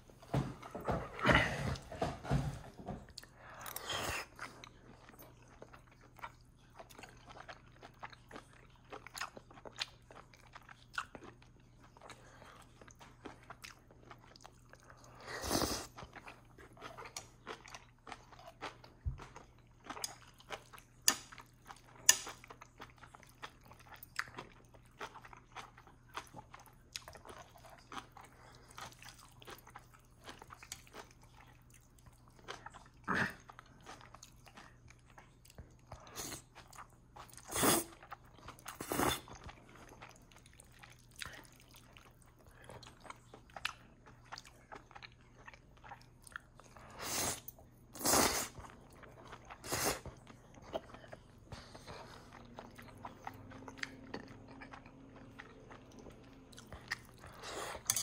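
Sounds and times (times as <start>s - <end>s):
person chewing with wet clicks: 3.1s - 15.2s, 15.8s - 47.8s, 48.4s - 58.0s.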